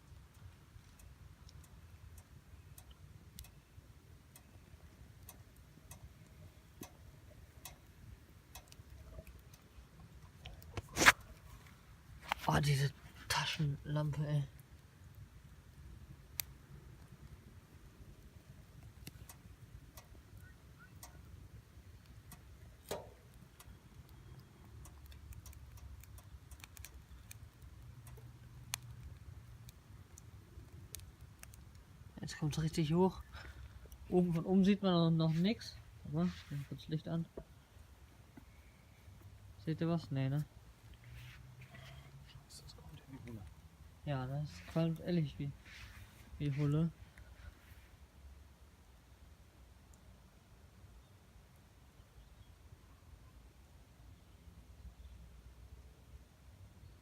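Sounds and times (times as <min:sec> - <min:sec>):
campfire wood crackling: 0:00.0 - 0:52.8.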